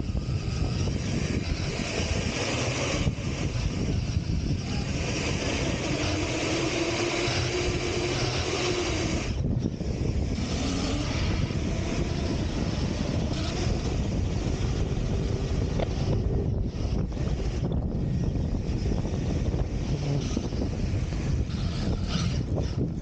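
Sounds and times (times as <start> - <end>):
faint motor hum: 0.0 - 23.0
wind on microphone: 0.0 - 23.0.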